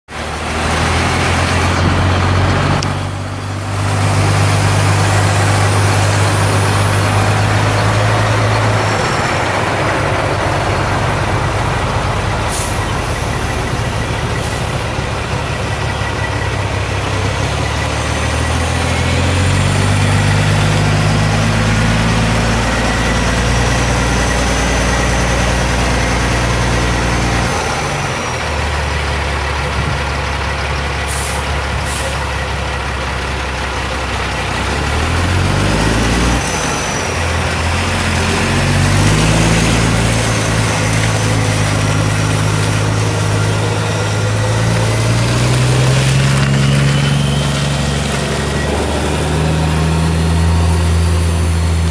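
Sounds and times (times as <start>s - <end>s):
truck diesel engine running: 0.1s - 51.9s.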